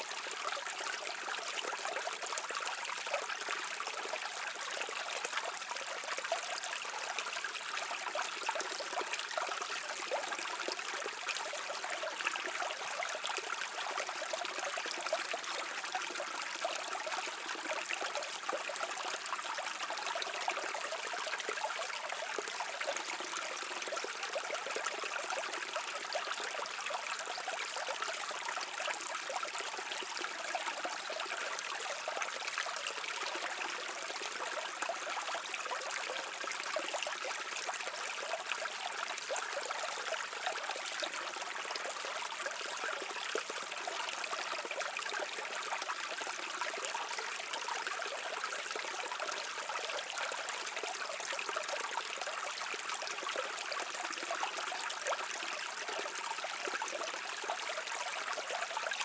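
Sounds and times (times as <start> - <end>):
brook flowing over stones: 0.0 - 59.0.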